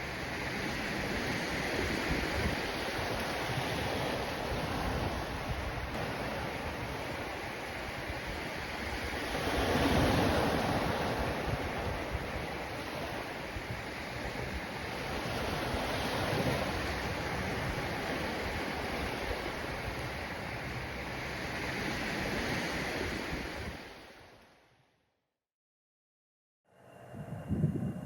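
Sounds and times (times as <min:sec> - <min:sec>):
wind: 0:00.0 - 0:25.1, 0:26.7 - 0:28.0.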